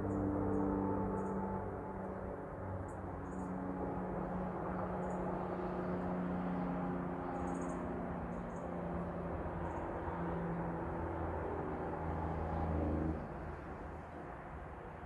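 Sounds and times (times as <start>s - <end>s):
low hum of distant traffic: 0.0s - 15.0s.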